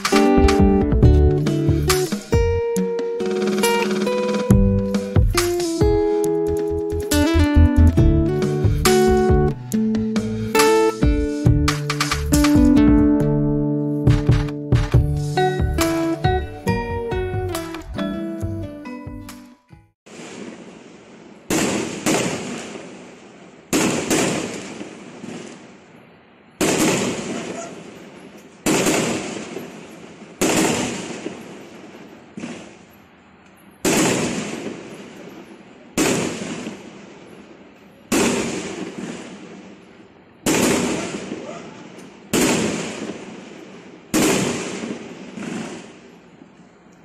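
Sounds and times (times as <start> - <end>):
fireworks bursting: 0.0 - 13.3, 20.1 - 47.0.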